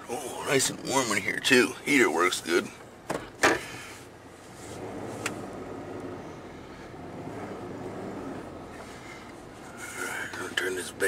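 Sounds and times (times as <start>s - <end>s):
pickup engine idling: 0.0s - 11.0s.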